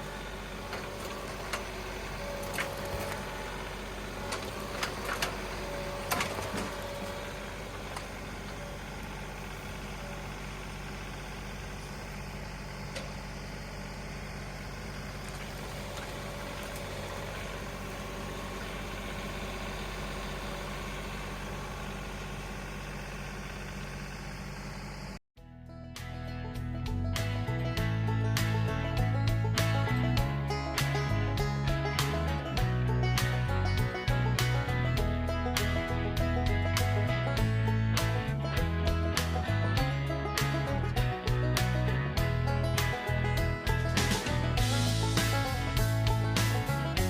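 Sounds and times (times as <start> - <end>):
tractor engine running: 0.0 - 47.0.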